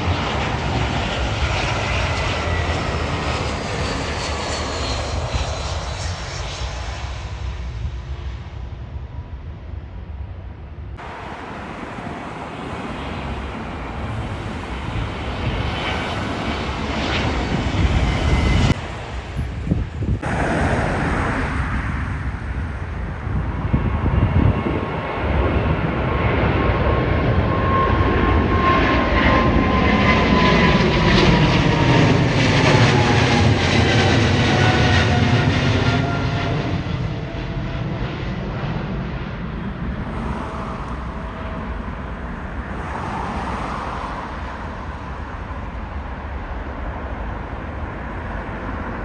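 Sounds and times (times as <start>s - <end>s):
jet engines passing: 0.0s - 10.1s, 10.7s - 49.0s.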